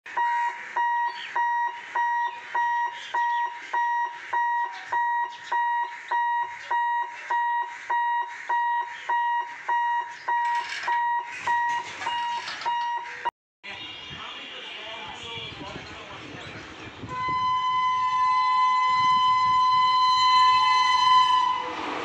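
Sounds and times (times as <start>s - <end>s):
electronic alarm beeping: 0.1s - 13.3s, 17.1s - 21.7s.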